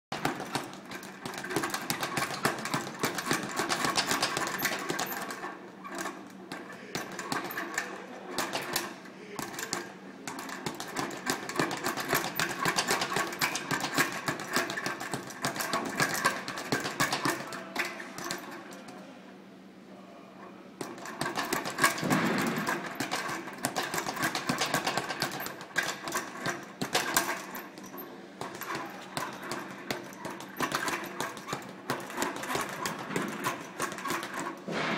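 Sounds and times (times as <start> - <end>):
speed bag being punched: 0.1 - 19.0, 20.8 - 34.9.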